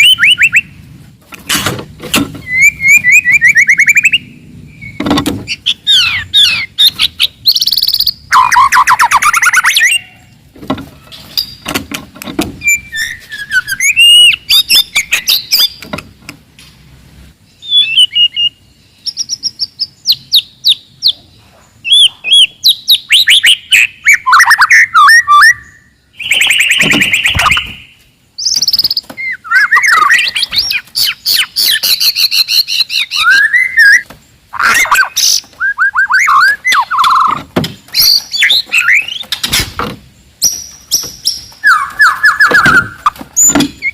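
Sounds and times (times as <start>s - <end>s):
bird singing whistled song: 0.0s - 0.8s, 2.4s - 10.2s, 12.6s - 15.8s, 17.5s - 21.2s, 21.8s - 34.0s, 34.6s - 39.4s, 40.4s - 43.9s.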